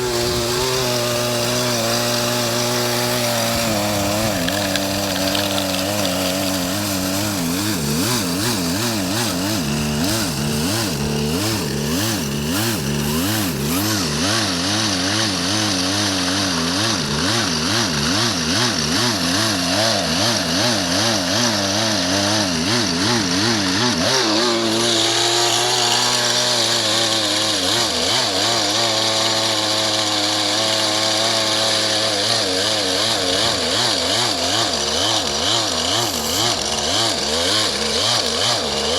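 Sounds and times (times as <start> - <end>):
two-stroke chainsaw running: 0.0 - 38.9.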